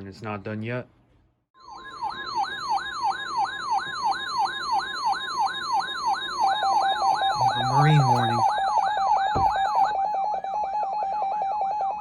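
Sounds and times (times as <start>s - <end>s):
electronic yelp siren: 1.6s - 12.0s.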